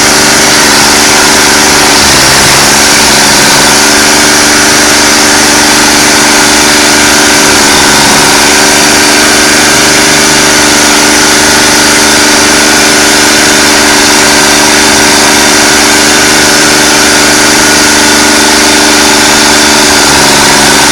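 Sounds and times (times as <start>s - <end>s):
stump grinder running: 0.0s - 20.9s.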